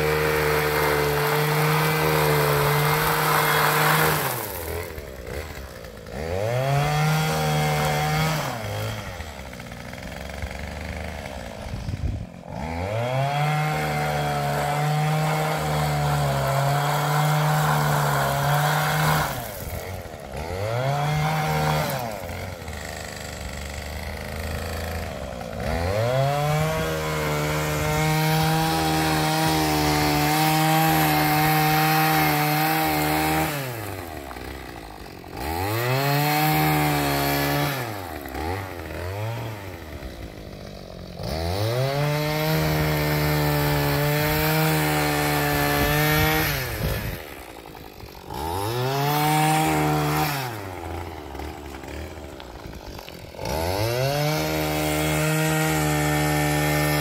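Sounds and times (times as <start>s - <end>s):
two-stroke engine revving: 0.0s - 57.0s.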